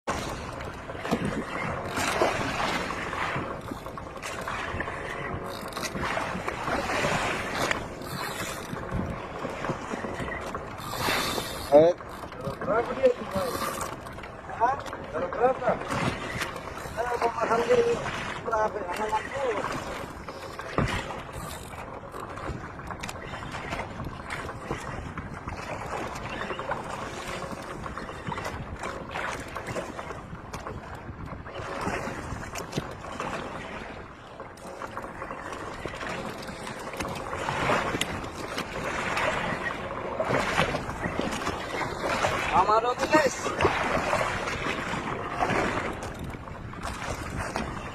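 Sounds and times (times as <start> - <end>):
wind on microphone: 0.0 - 11.7, 19.1 - 47.9
boat noise at sea: 0.0 - 47.9
water washing against hull: 0.0 - 47.9.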